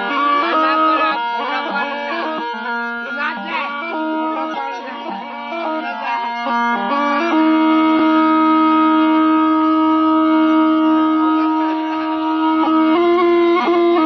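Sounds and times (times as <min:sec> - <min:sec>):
gourd wind instrument playing: 0:00.0 - 0:14.0.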